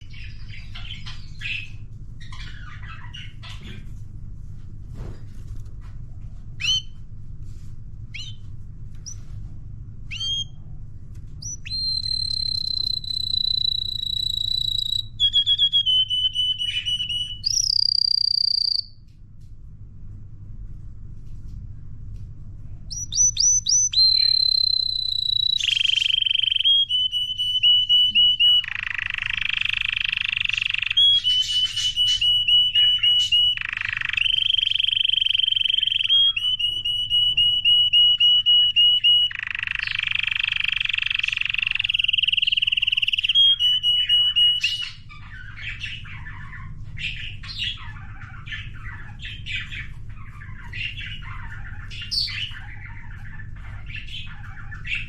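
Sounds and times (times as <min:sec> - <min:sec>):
canary singing trills: 0:00.0 - 0:03.9, 0:06.6 - 0:07.0, 0:08.1 - 0:09.2, 0:10.1 - 0:10.6, 0:11.4 - 0:19.0, 0:22.9 - 0:55.0.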